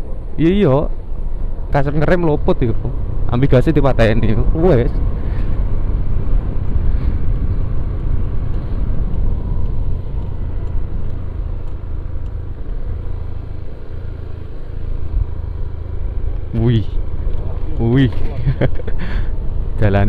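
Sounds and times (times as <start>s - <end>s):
scooter engine and road rumble: 0.0s - 20.0s.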